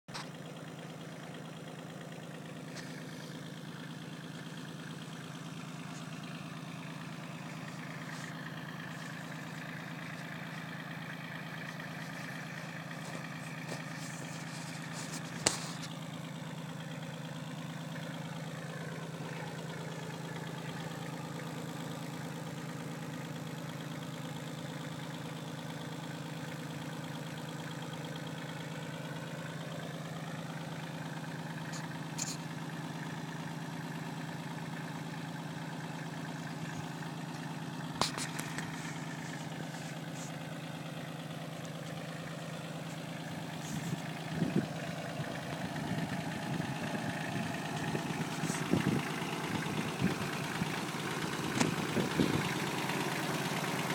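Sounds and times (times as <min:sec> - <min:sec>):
diesel tractor engine running: 0:00.0 - 0:53.9.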